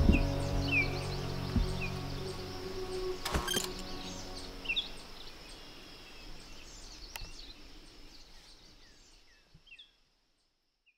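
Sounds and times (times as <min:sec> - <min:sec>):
steady hiss: 0:00.0 - 0:09.4
small birds chirping: 0:00.0 - 0:10.9.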